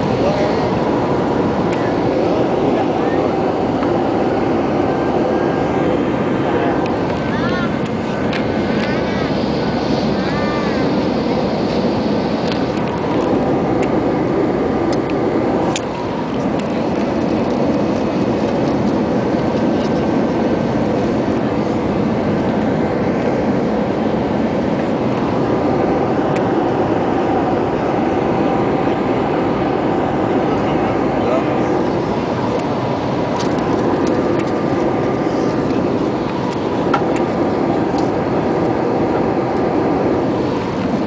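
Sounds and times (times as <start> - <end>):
airliner cabin roar: 0.0 - 41.0.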